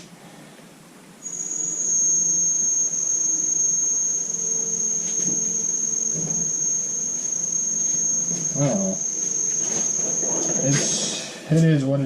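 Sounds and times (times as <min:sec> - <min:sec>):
faint low hum: 0:00.0 - 0:12.0
steady high-pitched tone: 0:01.2 - 0:11.7.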